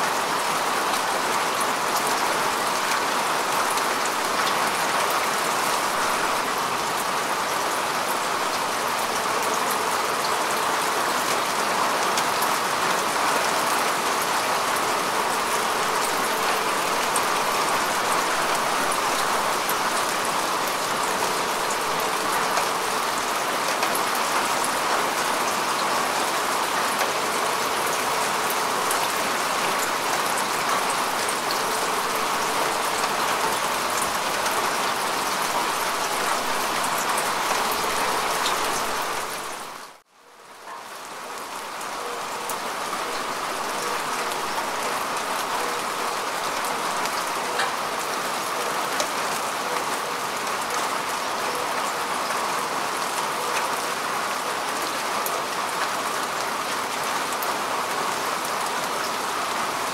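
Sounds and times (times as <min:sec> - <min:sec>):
rain falling on grass: 0:00.0 - 0:59.9.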